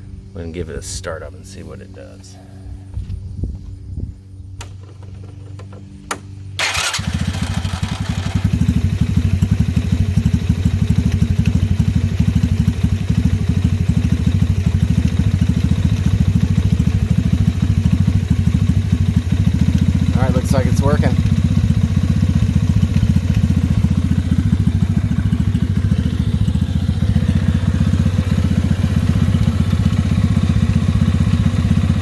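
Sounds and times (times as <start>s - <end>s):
small engine running: 4.6s - 32.0s.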